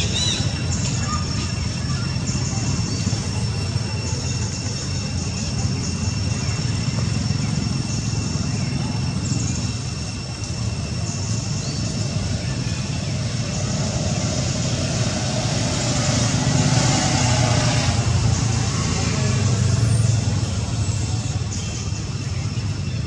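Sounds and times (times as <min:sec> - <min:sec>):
engine-like rumble: 0:00.0 - 0:23.0
faint voices: 0:00.0 - 0:23.0.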